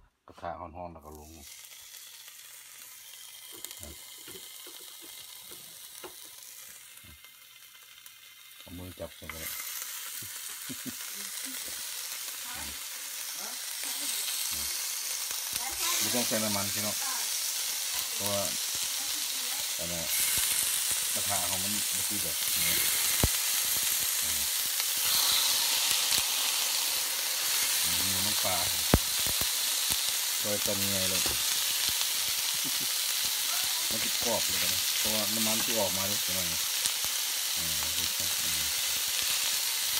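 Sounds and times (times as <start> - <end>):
pork sizzling in a frying pan: 0.9 - 39.9.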